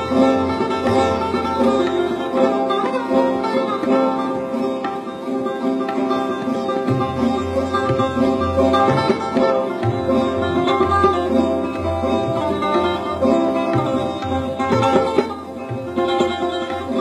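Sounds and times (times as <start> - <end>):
sarod plucking a melody: 0.0 - 17.0
tabla bass drum strokes: 0.0 - 17.0.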